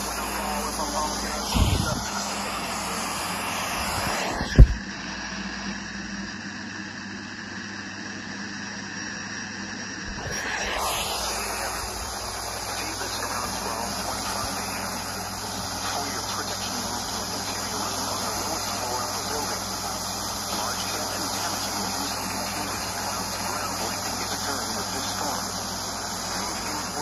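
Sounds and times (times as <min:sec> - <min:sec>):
radio static hiss: 0:00.0 - 0:07.0, 0:09.4 - 0:27.0.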